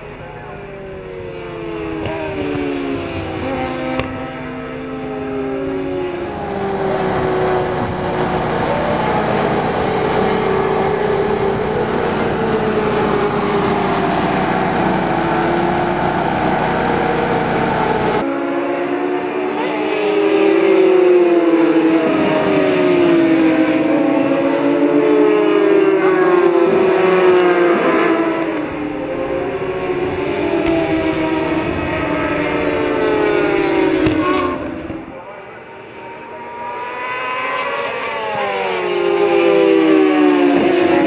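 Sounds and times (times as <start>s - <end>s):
racing motorcycle engines: 0.0s - 41.0s.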